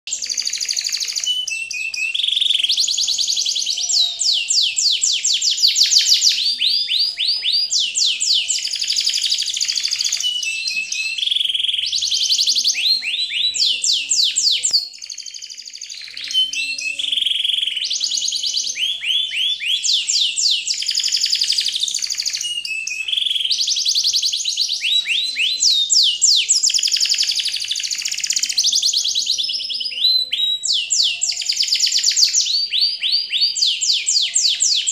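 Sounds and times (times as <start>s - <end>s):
chirping whistle music: 0.1s - 34.9s.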